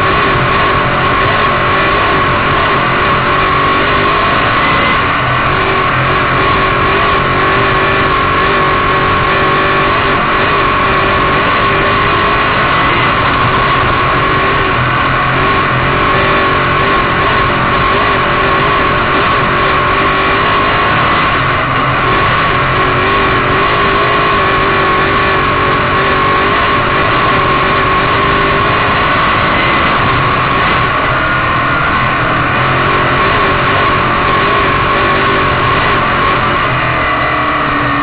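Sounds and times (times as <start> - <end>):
race car engine drone: 0.0 - 38.0.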